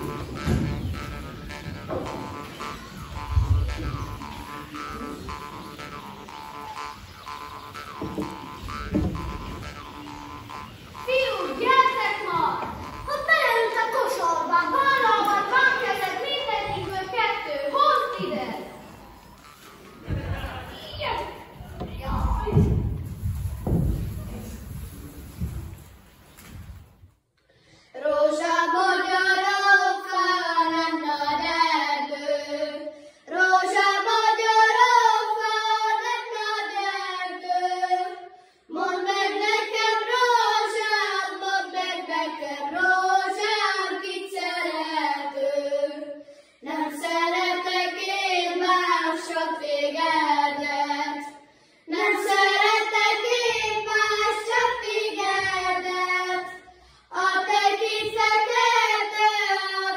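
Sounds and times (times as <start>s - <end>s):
children singing unaccompanied: 0.0s - 23.0s, 28.0s - 59.9s.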